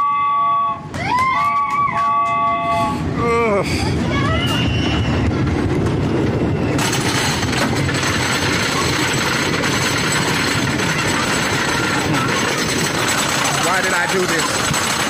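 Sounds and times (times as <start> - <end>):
roller coaster lift chain clattering: 1.0 - 2.6, 3.8 - 15.0.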